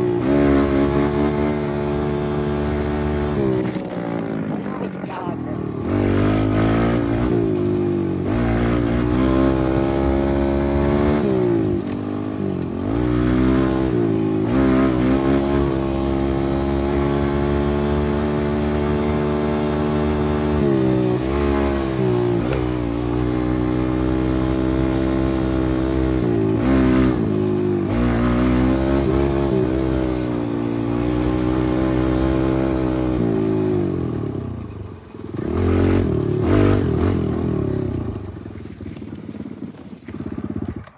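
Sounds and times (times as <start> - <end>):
pit bike engine revving: 0.0 - 40.9.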